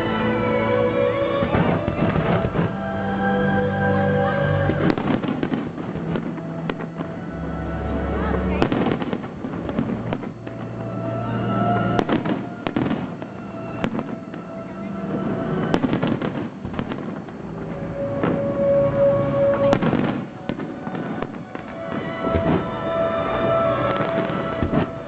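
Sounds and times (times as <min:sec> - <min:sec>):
music playing: 0:00.0 - 0:25.0
fireworks bangs and crackling: 0:00.8 - 0:03.2, 0:03.9 - 0:25.0.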